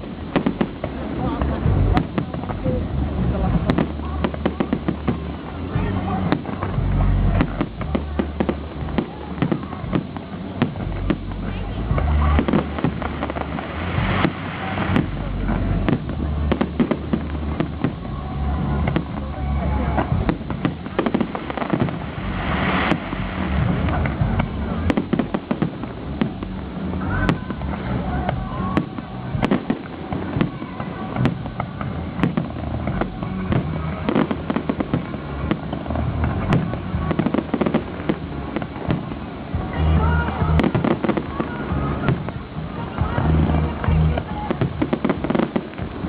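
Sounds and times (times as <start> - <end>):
firework hissing burst: 0.0 - 46.0
fireworks bangs and crackling: 0.0 - 46.0
music: 0.0 - 46.0.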